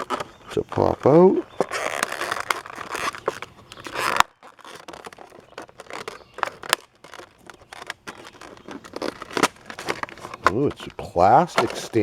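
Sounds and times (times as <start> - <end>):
packaging sharp crack: 0.0 - 12.0
packaging tearing: 0.0 - 12.0
plastic crackles and clicks: 0.0 - 12.0.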